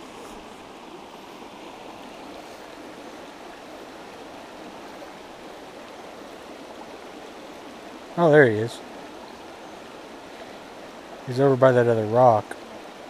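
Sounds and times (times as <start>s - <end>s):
creek flowing over stones: 0.0s - 13.0s.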